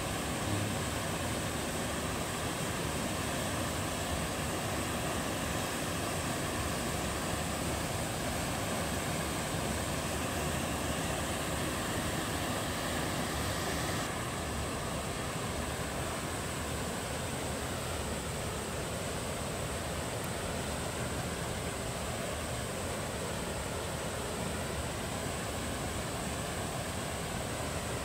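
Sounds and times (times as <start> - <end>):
waterfall rushing into pool: 0.0 - 28.0.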